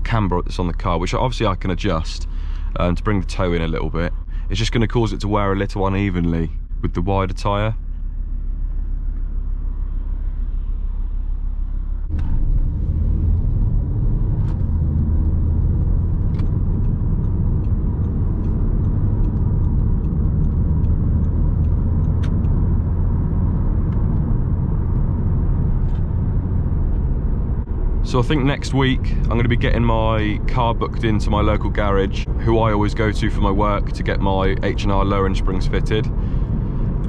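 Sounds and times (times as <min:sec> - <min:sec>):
car engine driving: 0:00.0 - 0:37.0
road noise: 0:00.0 - 0:37.0.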